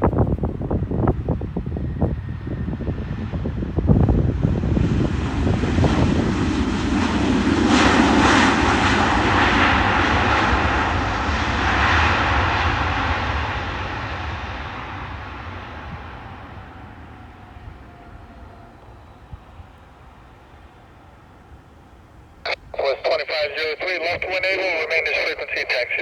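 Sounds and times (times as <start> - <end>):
airliner passing by: 0.0 - 26.0.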